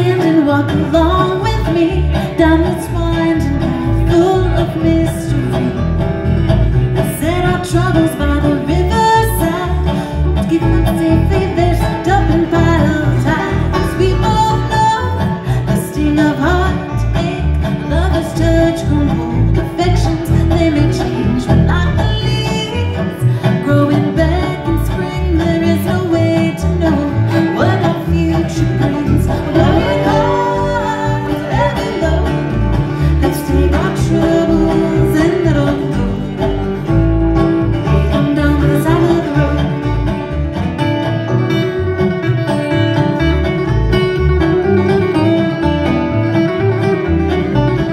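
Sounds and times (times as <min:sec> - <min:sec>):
person singing: 0:00.0 - 0:06.0, 0:06.9 - 0:36.9, 0:37.5 - 0:40.4
bluegrass band playing: 0:00.0 - 0:47.9.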